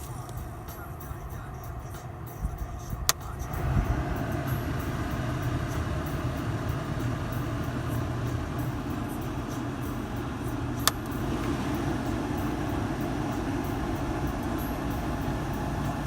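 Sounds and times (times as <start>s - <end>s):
car interior running noise: 0.0s - 16.0s.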